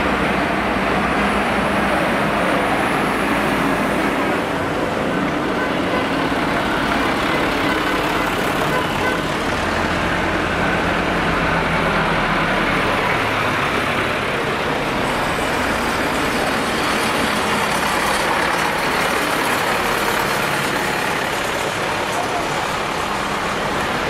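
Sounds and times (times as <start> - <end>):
tractor engines driving past: 0.0 - 24.0.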